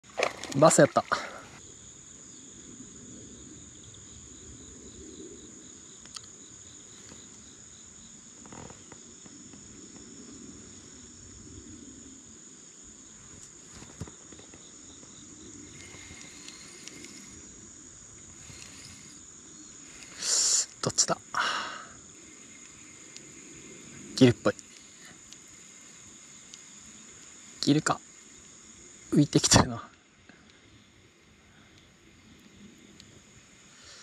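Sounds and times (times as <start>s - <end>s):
insects calling: 0.0s - 34.0s.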